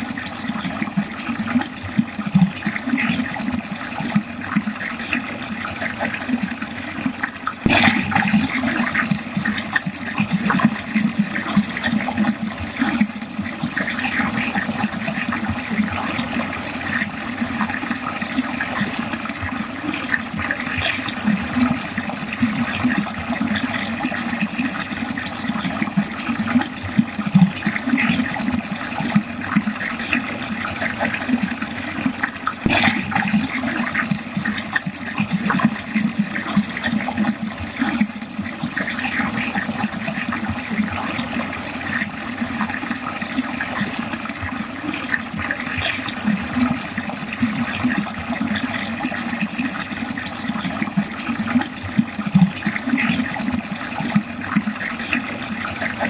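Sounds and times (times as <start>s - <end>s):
splash of flow into drain: 0.0s - 56.0s
water draining: 0.0s - 56.0s.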